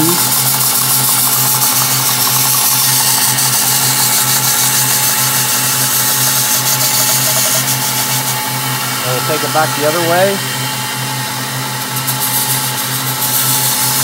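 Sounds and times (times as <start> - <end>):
motor low hum: 0.0 - 12.0
belt grinder grinding steel: 0.0 - 14.0.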